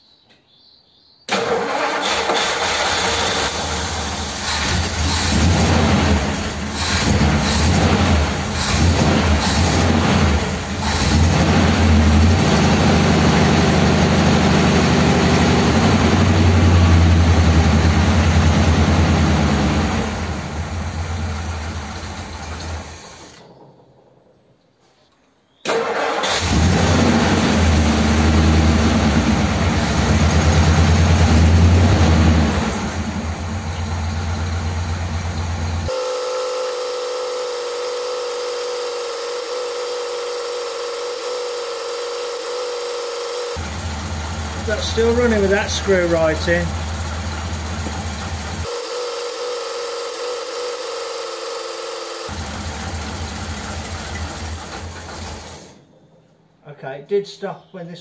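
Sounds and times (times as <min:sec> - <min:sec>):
car engine running: 0:02.9 - 0:23.1, 0:26.4 - 0:55.6.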